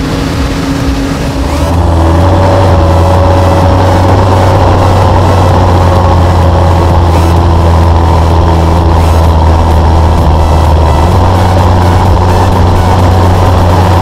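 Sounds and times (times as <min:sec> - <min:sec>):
diesel harvest machinery running: 0:00.0 - 0:14.0
tractor engine drone: 0:00.0 - 0:14.0.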